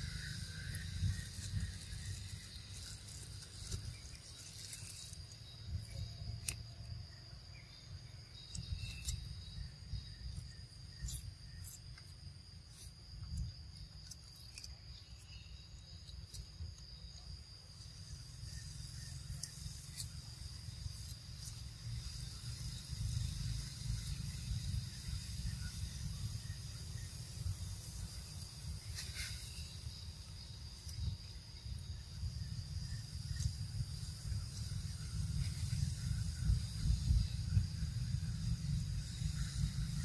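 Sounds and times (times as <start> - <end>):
wind rumble on microphone: 0.0 - 17.3, 17.9 - 40.0
high insect drone: 0.0 - 40.0.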